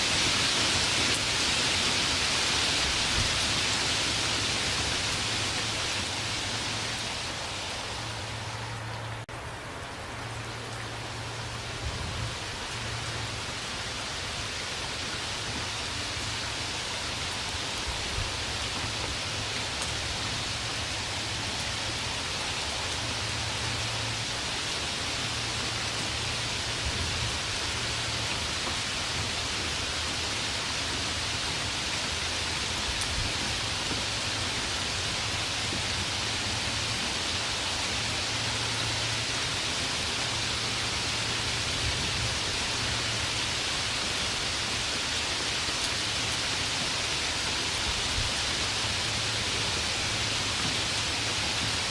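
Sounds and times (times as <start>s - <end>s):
steady dense rainfall: 0.0s - 51.9s.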